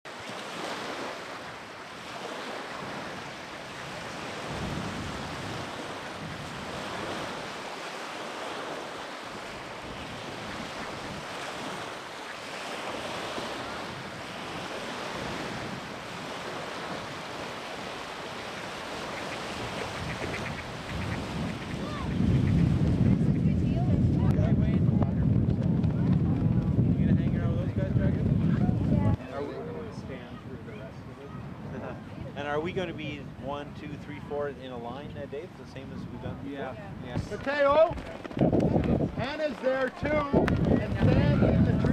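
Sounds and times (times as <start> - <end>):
wind buffeting microphone: 0.4 - 41.9.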